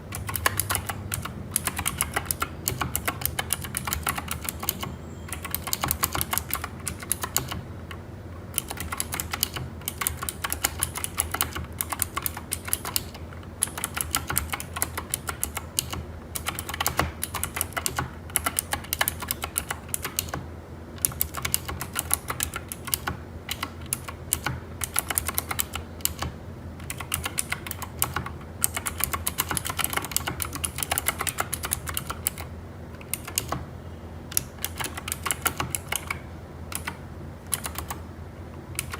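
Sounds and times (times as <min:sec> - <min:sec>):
mechanical keyboard typing: 0:00.0 - 0:33.7, 0:34.3 - 0:38.9.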